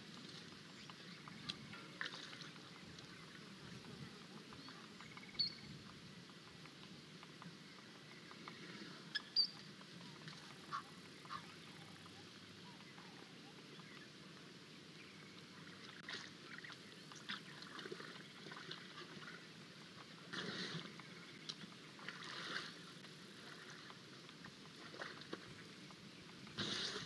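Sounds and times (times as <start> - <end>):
steady low hiss: 0.0 - 27.0.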